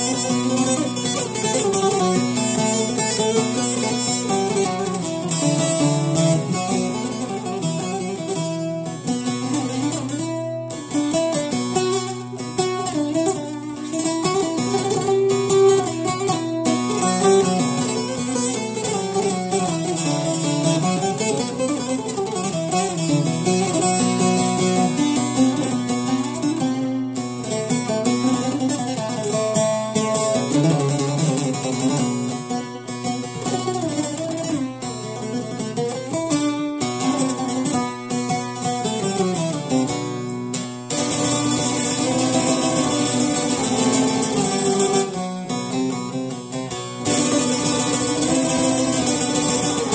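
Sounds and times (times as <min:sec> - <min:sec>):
plucked saz melody: 0:00.0 - 0:49.9.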